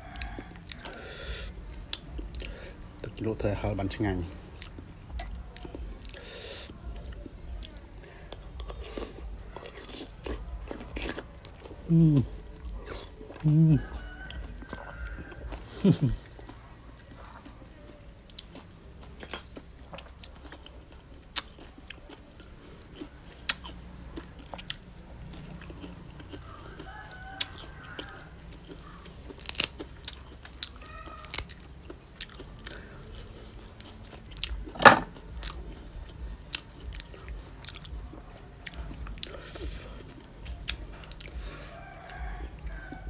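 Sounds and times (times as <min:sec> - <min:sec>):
chewing and crunching: 0:00.0 - 0:43.0.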